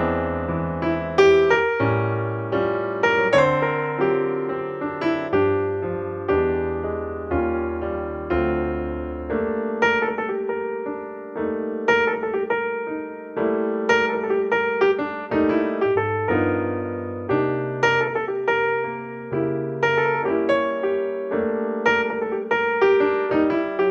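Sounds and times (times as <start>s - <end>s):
gentle solo piano melody: 0.0s - 23.9s.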